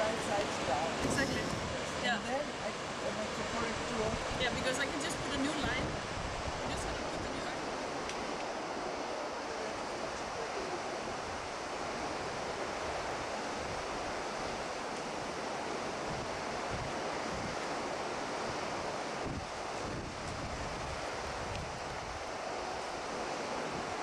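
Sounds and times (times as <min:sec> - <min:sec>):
waterfall roaring: 0:00.0 - 0:24.0
wind buffeting microphone: 0:00.0 - 0:24.0.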